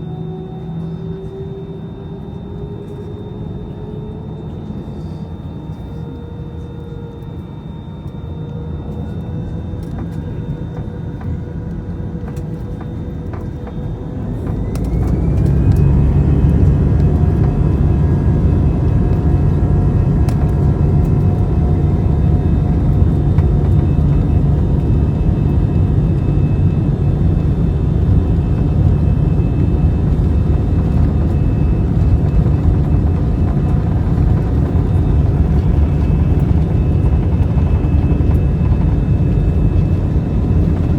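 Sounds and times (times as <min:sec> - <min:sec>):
airliner engines spooling up: 0:00.0 - 0:40.9.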